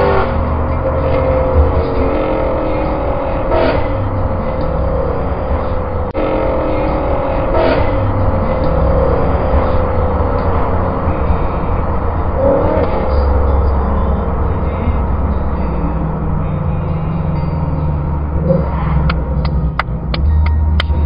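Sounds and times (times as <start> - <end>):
car engine running: 0.0 - 21.0
road noise rumble: 0.0 - 21.0.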